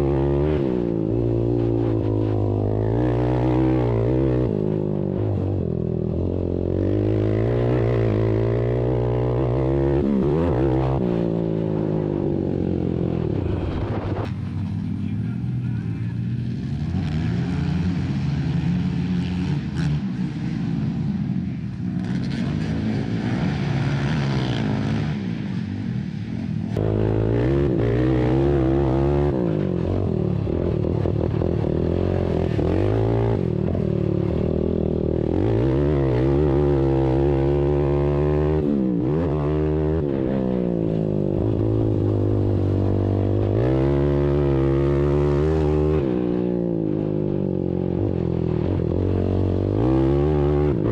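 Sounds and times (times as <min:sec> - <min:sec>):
close atv engine revving: 0:00.0 - 0:13.3, 0:21.9 - 0:25.2, 0:26.7 - 0:50.9
atv engines revving: 0:00.0 - 0:50.9.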